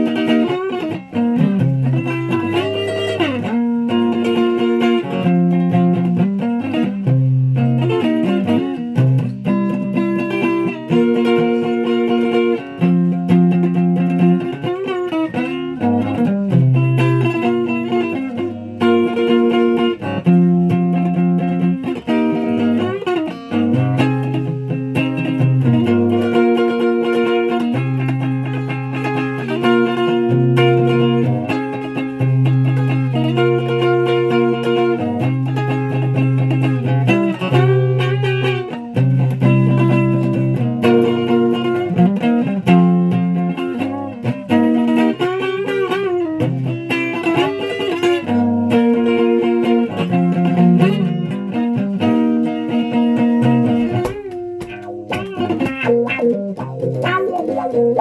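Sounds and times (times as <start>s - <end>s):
guitar chords: 0.0s - 58.0s.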